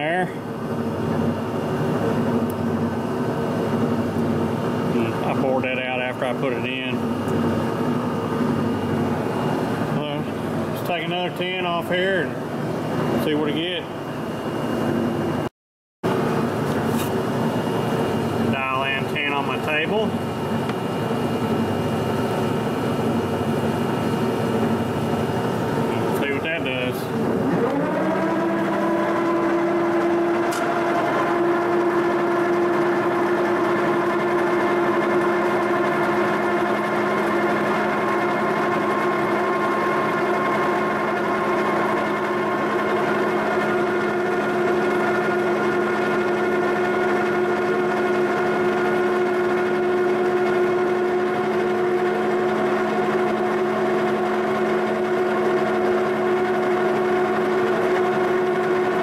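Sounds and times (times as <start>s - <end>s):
milling machine humming: 0.0s - 15.5s, 16.1s - 59.0s.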